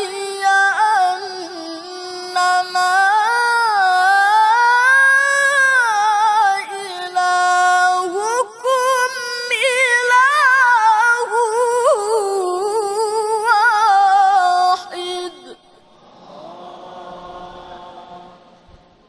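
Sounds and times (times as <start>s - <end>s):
man reciting melodically: 0.0s - 16.4s.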